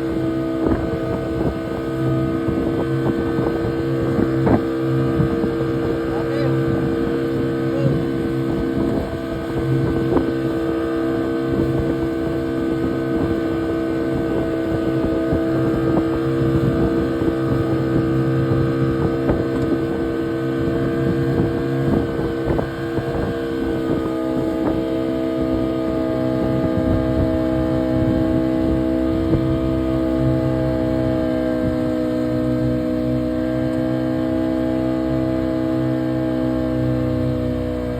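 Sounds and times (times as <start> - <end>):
boat engine droning: 0.0 - 37.9
rushing wind: 0.0 - 37.9
water noise: 0.0 - 37.9.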